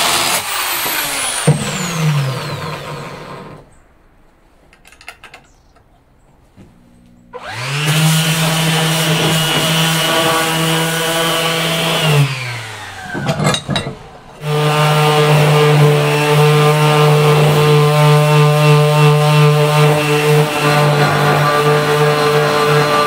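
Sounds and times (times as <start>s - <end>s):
orbital sander whining on metal: 0.0s - 3.7s, 6.9s - 23.0s.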